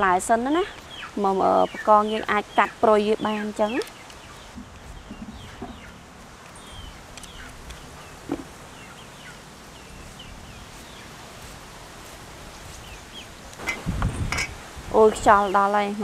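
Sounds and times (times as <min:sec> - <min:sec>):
birds chirping: 0:00.0 - 0:15.9
faint outdoor background: 0:00.0 - 0:16.0.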